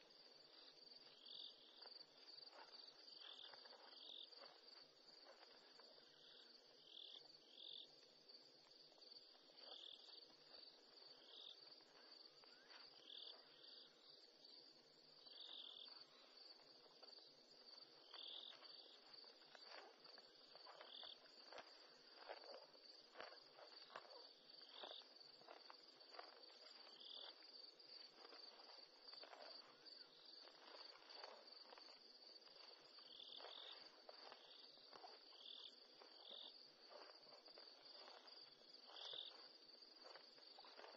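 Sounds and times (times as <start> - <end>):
crickets trilling: 0.0 - 40.9
insect chirps: 0.0 - 40.9.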